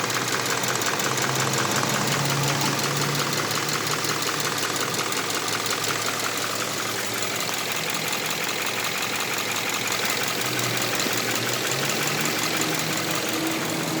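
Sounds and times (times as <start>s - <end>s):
car engine idling: 0.0s - 14.0s
rapid engine valve clicking: 0.0s - 14.0s.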